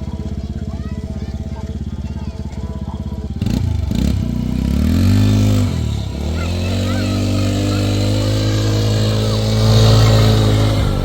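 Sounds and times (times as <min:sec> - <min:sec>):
small petrol engine revving: 0:00.0 - 0:11.0.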